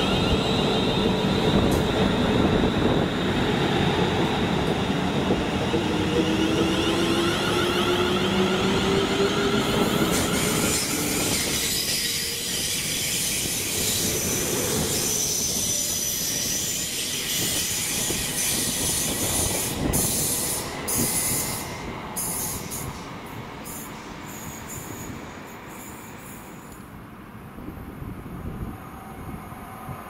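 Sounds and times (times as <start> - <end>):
train running on track: 0.0 - 30.0.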